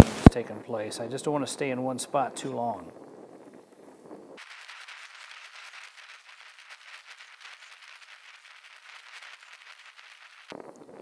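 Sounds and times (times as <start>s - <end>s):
torch flame hissing and crackling: 0.0s - 11.0s.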